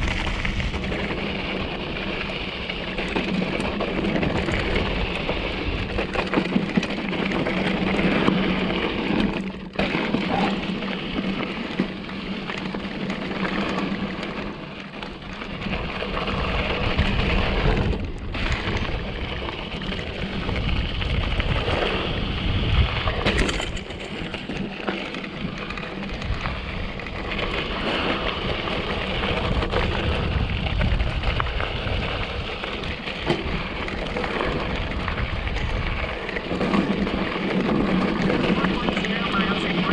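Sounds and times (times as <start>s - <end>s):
bike rattling and knocking: 0.0s - 38.8s
tyres rolling over dirt: 0.0s - 39.9s.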